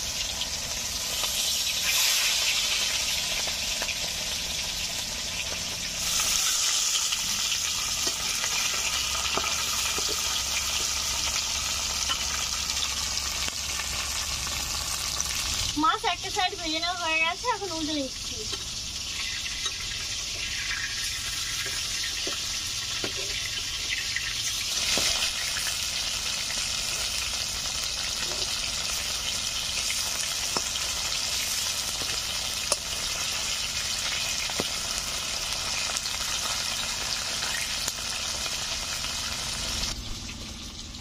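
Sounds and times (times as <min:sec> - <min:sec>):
fish sizzling in hot oil: 0:00.0 - 0:41.0.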